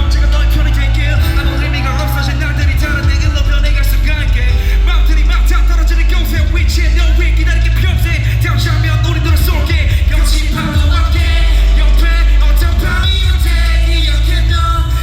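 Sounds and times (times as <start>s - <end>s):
loud music with booming bass: 0.0s - 15.0s
person singing: 0.0s - 15.0s.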